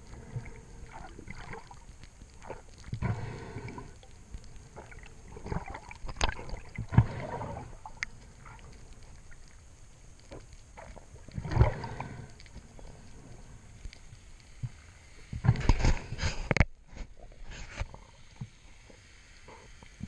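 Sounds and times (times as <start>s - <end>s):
water sloshing and splashing: 0.0s - 18.6s.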